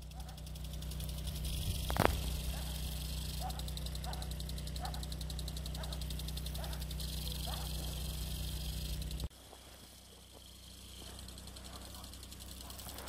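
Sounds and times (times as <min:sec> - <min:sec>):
sprinklers spraying water: 0:00.0 - 0:13.0.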